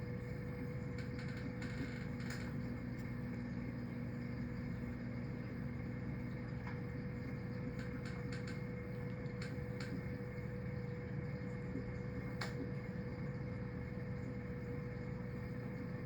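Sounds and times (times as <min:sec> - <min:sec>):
aquarium low hum: 0:00.0 - 0:16.0.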